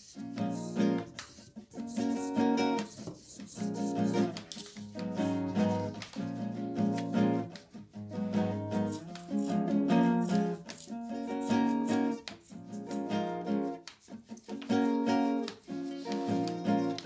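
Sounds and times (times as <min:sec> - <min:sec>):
plucked string melody: 0:00.1 - 0:17.0.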